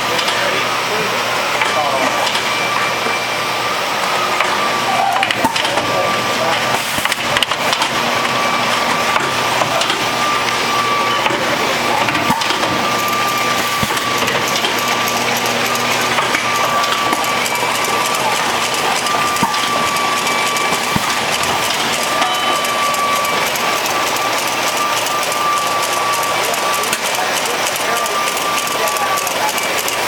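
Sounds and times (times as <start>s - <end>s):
high machine whine: 0.0s - 30.0s
machinery clattering: 4.0s - 30.0s.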